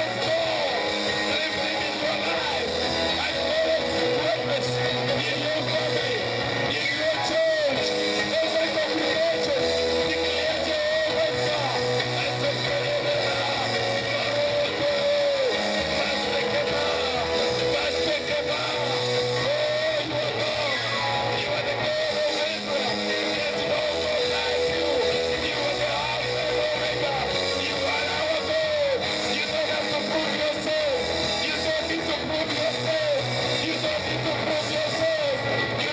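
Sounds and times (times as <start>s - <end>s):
bass line: 0.0s - 35.9s
guitar band music: 0.0s - 35.9s
sustained melody line: 0.0s - 35.9s.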